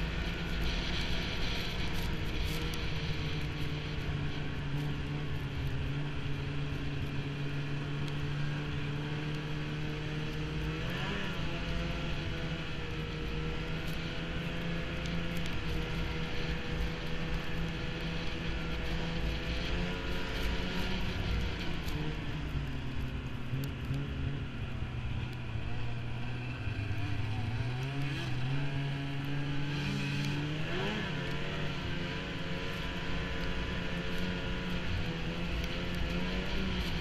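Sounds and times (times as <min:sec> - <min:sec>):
snowmobile engine running: 0:00.0 - 0:37.0.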